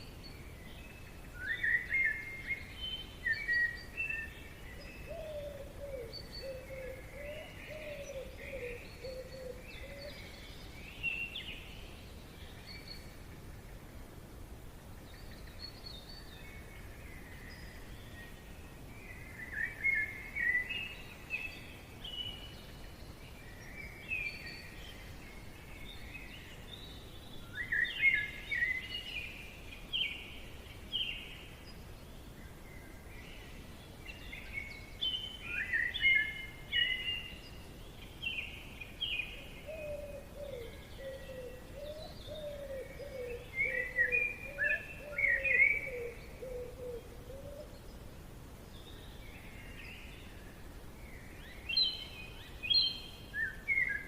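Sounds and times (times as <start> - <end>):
low background hiss: 0.0 - 54.0
songbirds chirping: 0.0 - 54.0.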